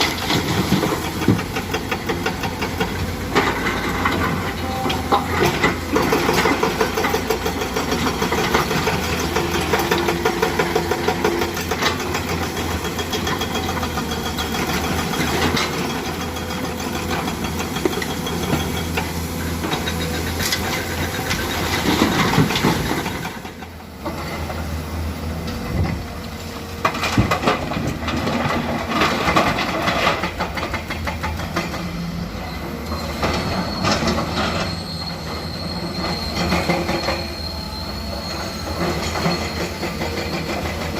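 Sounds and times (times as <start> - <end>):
excavator diesel engine under load: 0.0 - 40.9.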